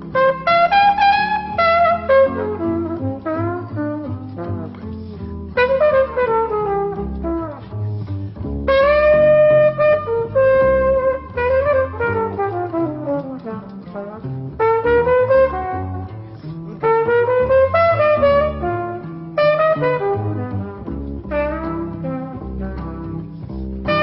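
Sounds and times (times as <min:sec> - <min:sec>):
jazz trumpet melody: 0:00.0 - 0:24.0
plucked double bass: 0:00.0 - 0:24.0.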